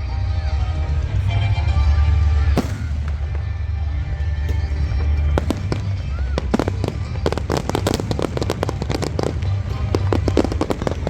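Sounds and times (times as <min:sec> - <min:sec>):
low rumble: 0:00.0 - 0:11.0
fireworks cracking and banging: 0:00.9 - 0:11.0.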